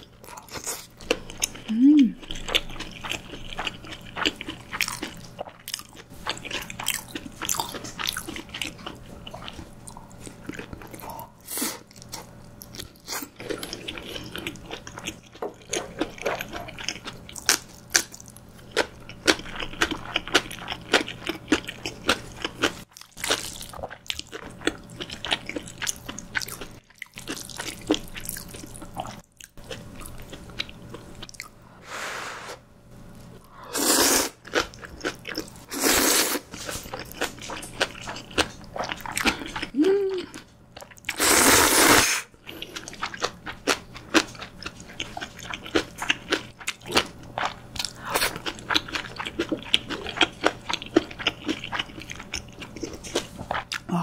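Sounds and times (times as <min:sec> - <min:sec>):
person chewing with wet smacks: 0:00.0 - 0:31.6, 0:36.5 - 0:41.2, 0:42.4 - 0:53.9.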